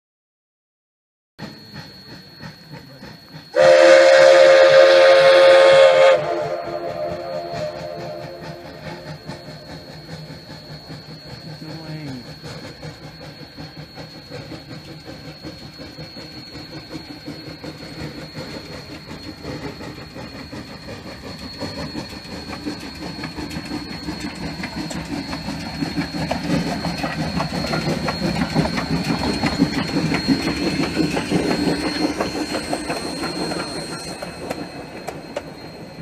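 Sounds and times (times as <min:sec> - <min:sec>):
thin steady high tone: 0:01.4 - 0:36.0.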